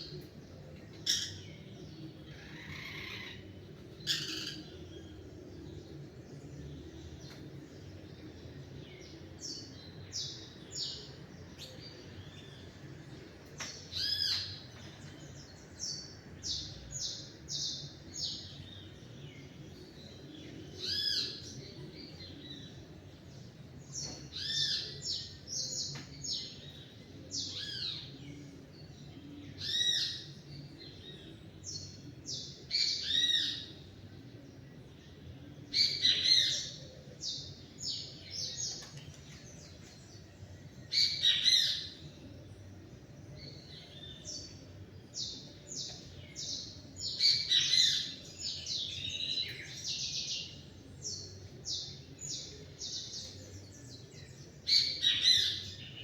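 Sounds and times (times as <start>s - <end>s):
faint steady hum: 0.0s - 56.0s
songbirds chirping: 0.0s - 56.0s.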